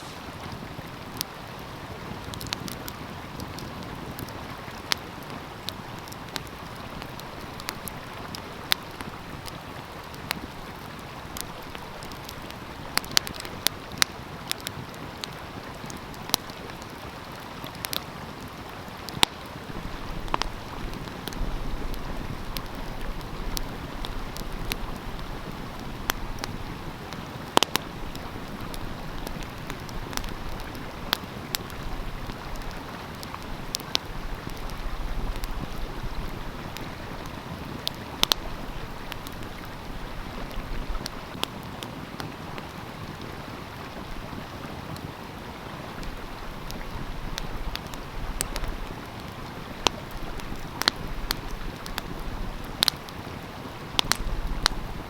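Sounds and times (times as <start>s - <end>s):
flowing stream: 0.0s - 55.0s
wood fire crackling: 0.0s - 55.0s.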